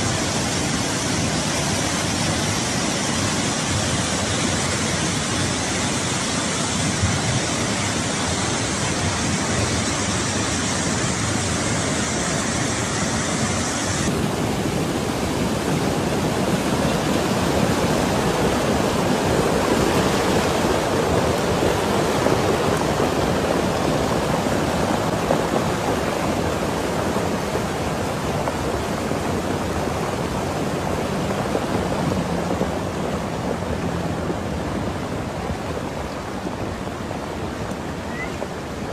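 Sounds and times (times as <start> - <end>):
muddy water rushing and churning: 0.0 - 38.9.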